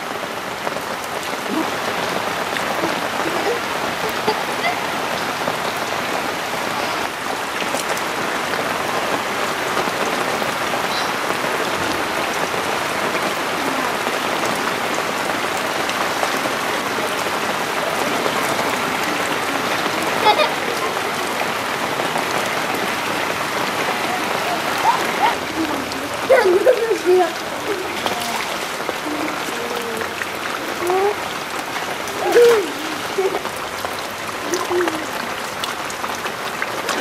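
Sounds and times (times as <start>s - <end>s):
rain falling on water and grass: 0.0s - 37.0s.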